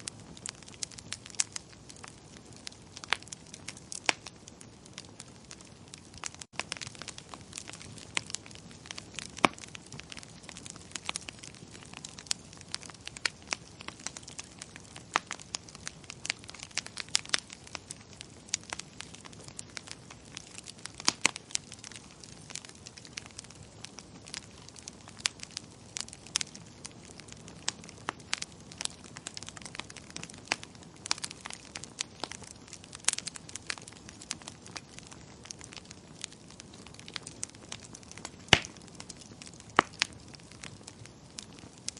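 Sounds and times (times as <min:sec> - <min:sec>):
fire crackling: 0:00.0 - 0:41.9.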